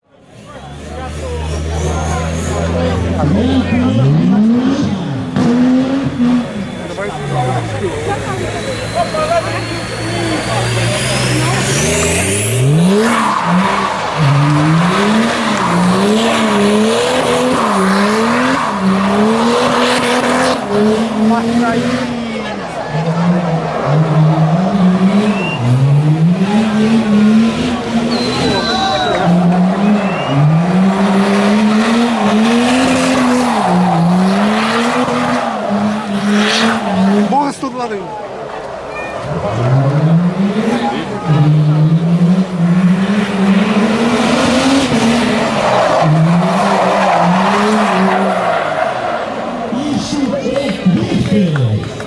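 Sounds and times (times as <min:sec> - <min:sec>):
tyres skidding and squealing: 0:00.0 - 0:52.0
car engine revving hard: 0:00.2 - 0:52.0.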